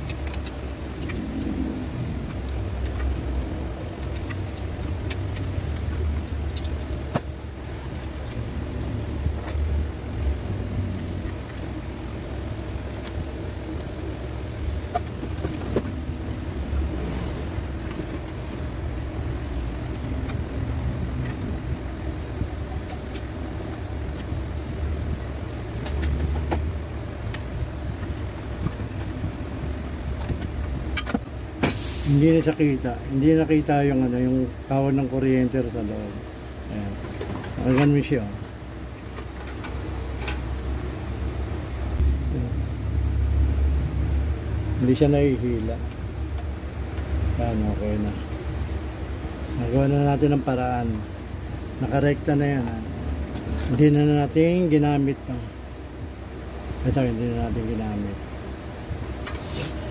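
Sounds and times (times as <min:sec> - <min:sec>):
low steady rumble: 0:00.0 - 0:59.9.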